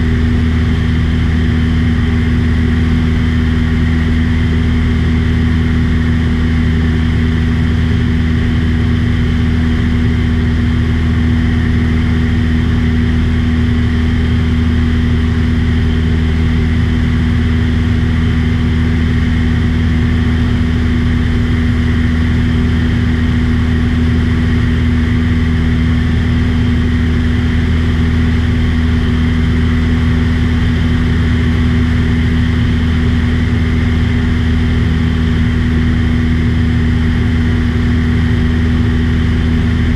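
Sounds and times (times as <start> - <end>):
small airplane engine droning: 0.0 - 39.9.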